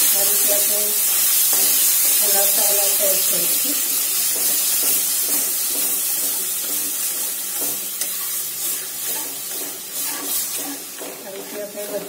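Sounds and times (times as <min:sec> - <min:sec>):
pulp sizzling in hot pan: 0:00.0 - 0:12.0
spatula stirring and scraping: 0:01.0 - 0:03.2, 0:03.8 - 0:12.0.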